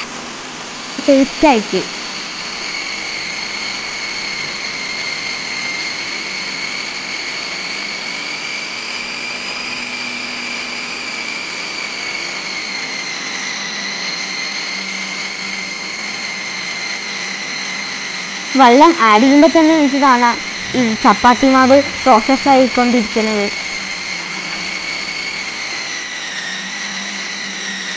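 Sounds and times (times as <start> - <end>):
food processor motor whining: 0.0 - 27.9.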